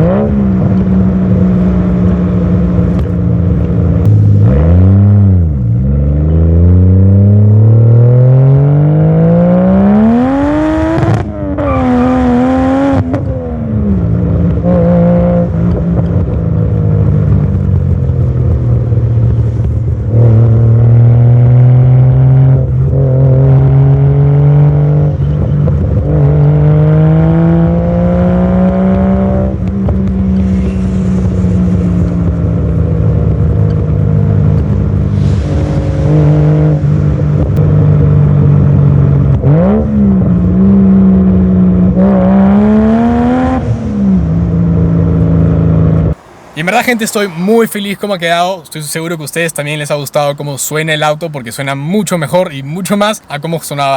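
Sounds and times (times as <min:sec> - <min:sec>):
car engine revving through exhaust: 0:00.0 - 0:47.6.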